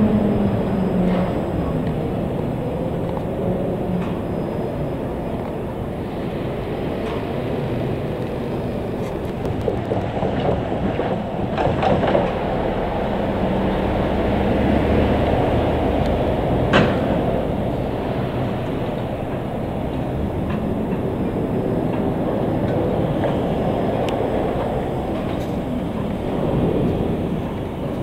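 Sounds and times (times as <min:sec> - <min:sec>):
diesel locomotive rumbling: 0:00.0 - 0:28.0.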